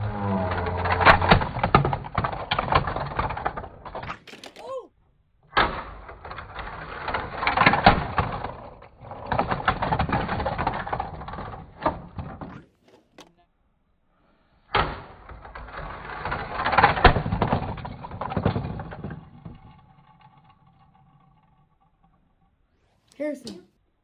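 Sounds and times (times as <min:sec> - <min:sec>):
toy cars rattling on plastic track: 0:00.1 - 0:04.7, 0:05.6 - 0:13.2, 0:14.8 - 0:22.5.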